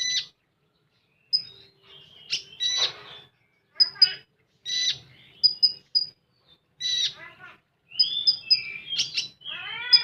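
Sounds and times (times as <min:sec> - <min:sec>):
bird chirping and trilling: 0:00.0 - 0:10.0.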